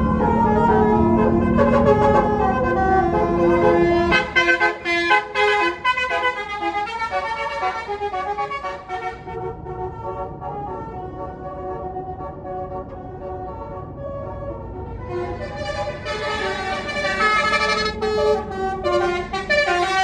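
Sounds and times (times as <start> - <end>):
low rumble of passing bus: 0.0 - 20.0
musical bus horn playing a tune: 0.0 - 20.0.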